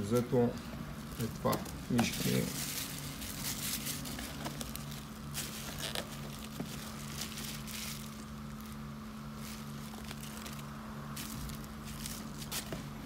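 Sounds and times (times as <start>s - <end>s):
low steady hum: 0.0s - 13.0s
plastic packaging crinkling: 0.0s - 13.0s.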